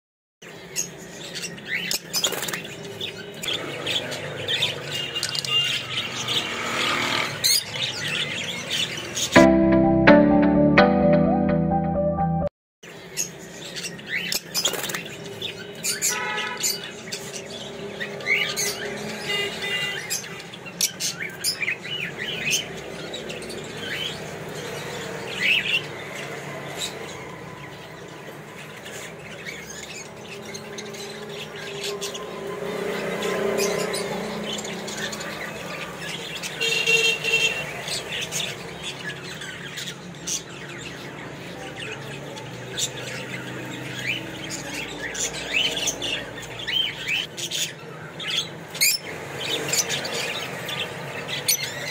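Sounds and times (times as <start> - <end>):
birds chirping and squawking: 0.4 - 9.4, 12.8 - 51.9.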